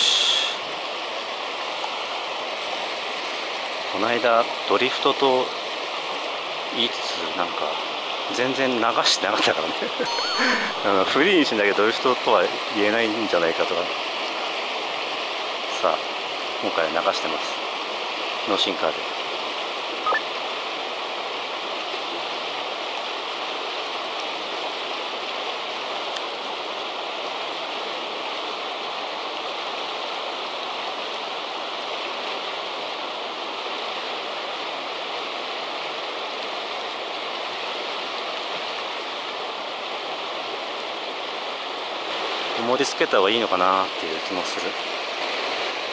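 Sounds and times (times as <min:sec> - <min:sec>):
river water rushing: 0:00.0 - 0:04.7, 0:05.3 - 0:45.9.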